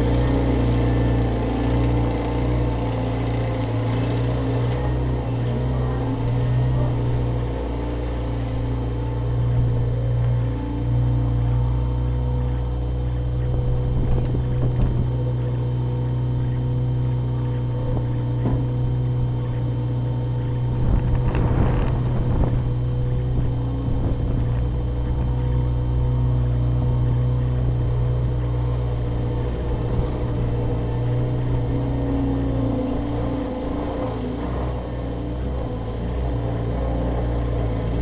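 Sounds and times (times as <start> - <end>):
loader engine running: 0.0 - 38.0.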